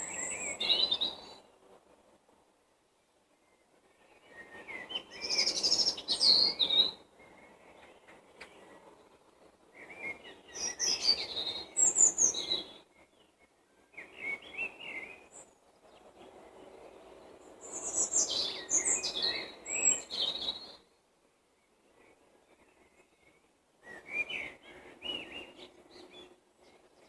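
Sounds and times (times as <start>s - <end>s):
songbirds singing: 0.0s - 2.4s, 3.0s - 27.0s.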